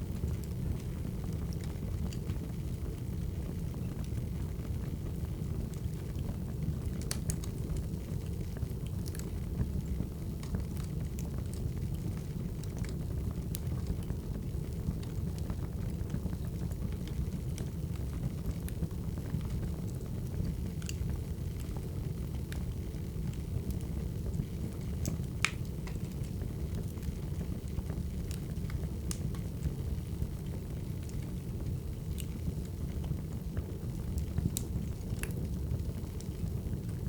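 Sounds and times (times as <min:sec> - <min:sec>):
wood fire crackling: 0:00.0 - 0:37.0
fire pops and snaps: 0:00.1 - 0:03.1, 0:05.7 - 0:37.0.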